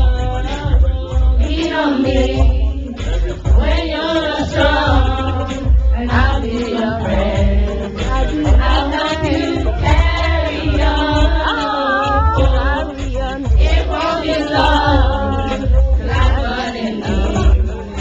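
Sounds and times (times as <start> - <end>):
choir singing gospel song: 0.0 - 18.0
steady low drum beat: 0.0 - 18.0.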